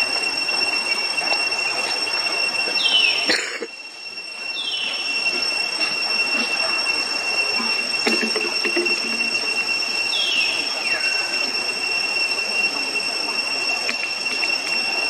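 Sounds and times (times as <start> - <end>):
descending whistled call: 0.0 - 15.0
high-pitched insect drone: 0.0 - 15.0.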